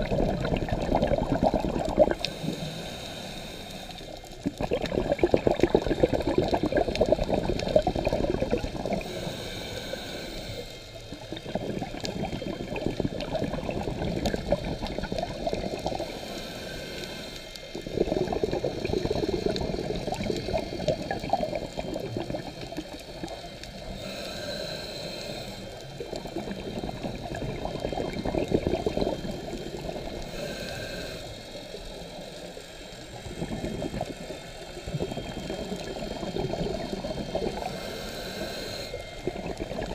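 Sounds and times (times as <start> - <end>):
exhaled bubbles gurgling underwater: 0.0 - 39.9
regulator hissing inhale: 2.1 - 4.5, 8.8 - 39.6.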